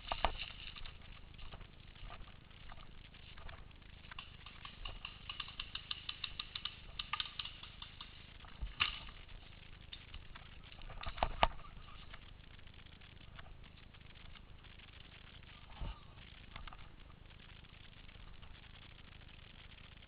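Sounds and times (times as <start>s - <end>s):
sharp clicks and snaps: 0.0s - 20.0s.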